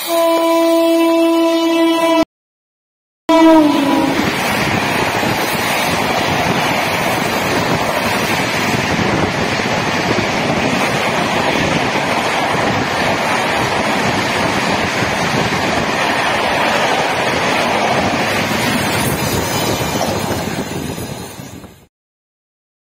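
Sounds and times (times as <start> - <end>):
train rushing past: 3.3 - 21.9.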